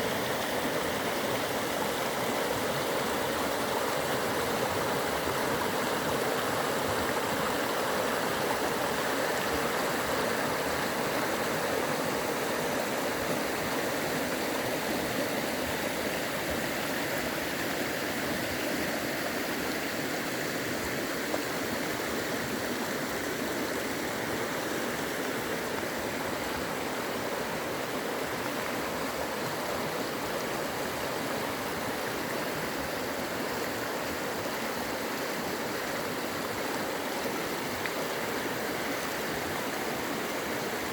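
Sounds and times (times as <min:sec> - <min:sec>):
mountain creek rushing: 0:00.0 - 0:40.9.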